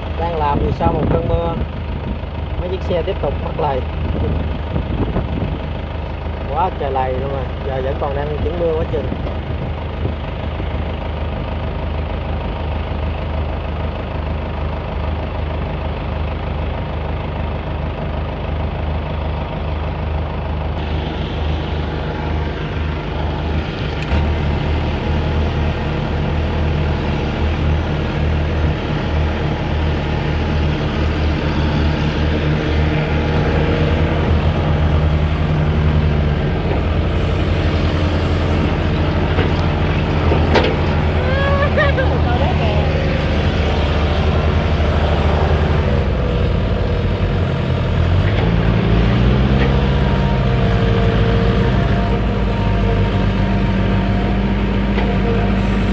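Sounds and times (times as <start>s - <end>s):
excavator diesel engine droning: 0.0s - 55.9s.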